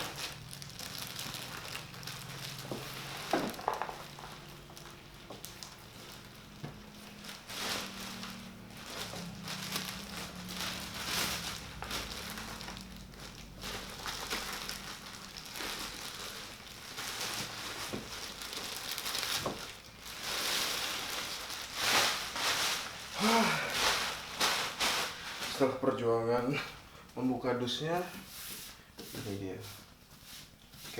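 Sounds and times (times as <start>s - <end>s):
cardboard and plastic rustling: 0.0s - 26.0s.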